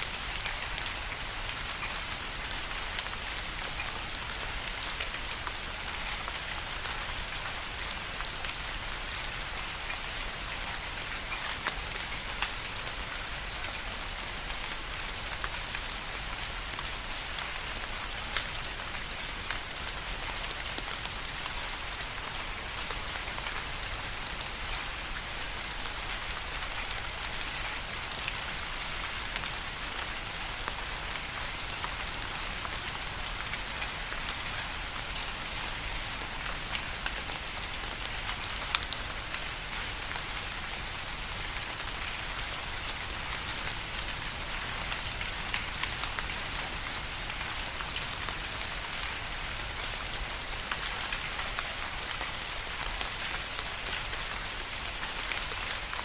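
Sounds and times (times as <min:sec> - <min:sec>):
rain falling: 0:00.0 - 0:56.0
raindrops ticking on a surface: 0:00.0 - 0:56.0.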